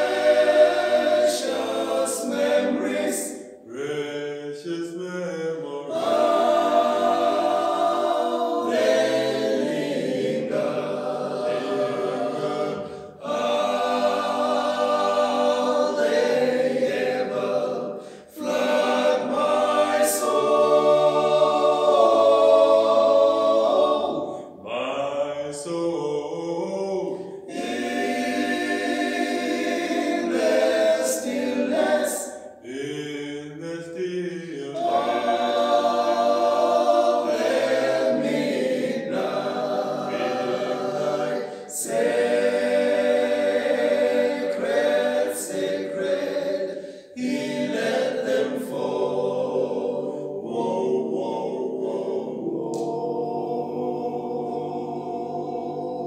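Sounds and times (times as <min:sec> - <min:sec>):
male vocal group singing a cappella: 0:00.0 - 0:56.0.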